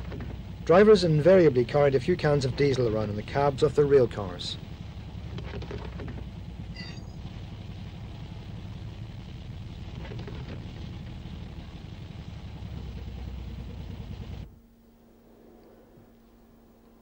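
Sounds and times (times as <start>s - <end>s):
diesel railcar engine idling: 0.0s - 15.1s.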